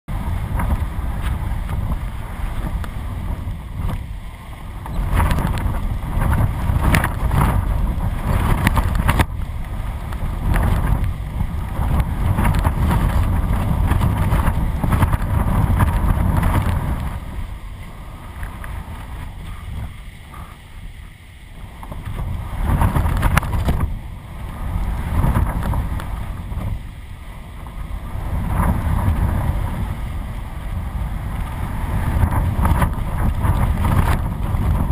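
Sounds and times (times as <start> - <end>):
gusty wind buffeting camera: 0.1 - 34.9.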